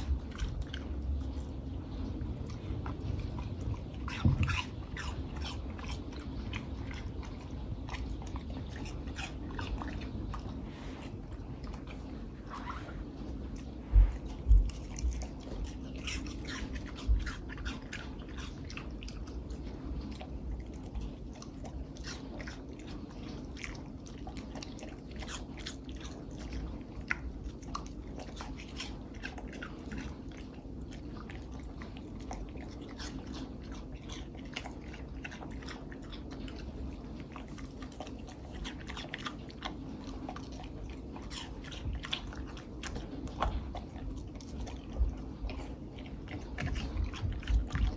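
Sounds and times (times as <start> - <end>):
dog chewing watermelon: 0.0 - 47.9.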